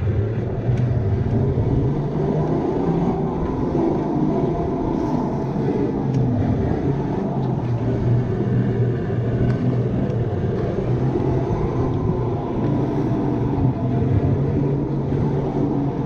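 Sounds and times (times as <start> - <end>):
electric go-kart driving: 0.0 - 16.0.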